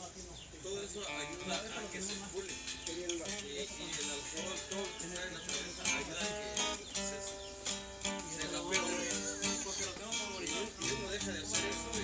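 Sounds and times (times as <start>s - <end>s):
music with plucked strings: 1.0s - 12.0s.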